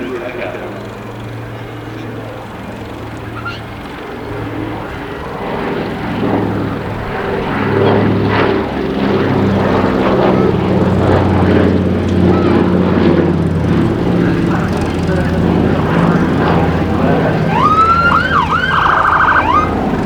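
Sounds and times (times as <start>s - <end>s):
propeller aircraft engines humming: 0.0s - 20.0s.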